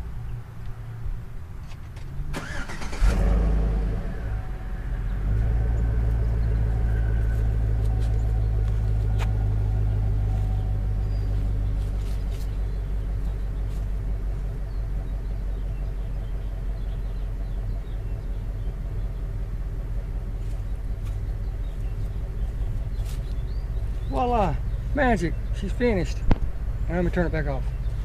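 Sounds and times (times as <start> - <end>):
car engine starting and idling: 1.9 - 28.0.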